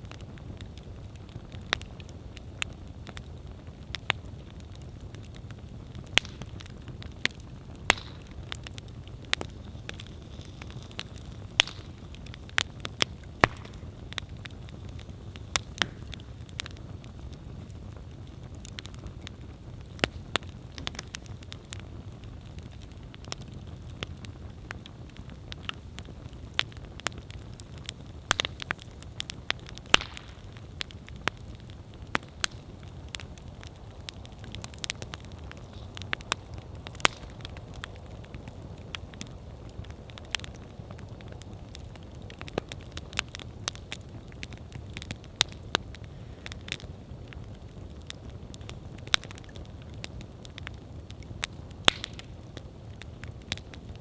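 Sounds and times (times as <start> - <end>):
burning wood crackling: 0.0 - 54.0
campfire flame rumble: 0.0 - 54.0.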